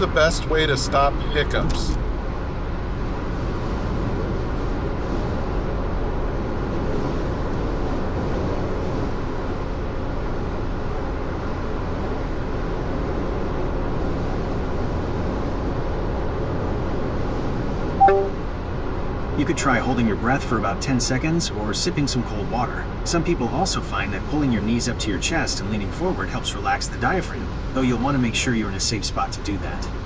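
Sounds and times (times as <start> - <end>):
road noise inside a car: 0.0 - 17.4, 19.3 - 30.0.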